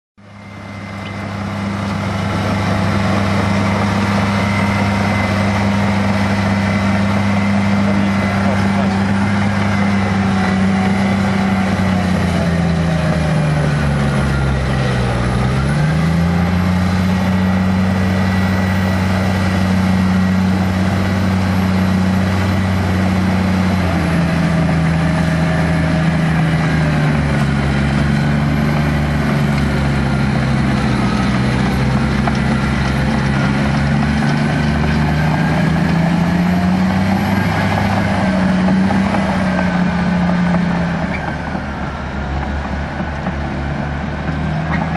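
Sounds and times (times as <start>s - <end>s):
bulldozer diesel engine running: 0.2s - 44.9s.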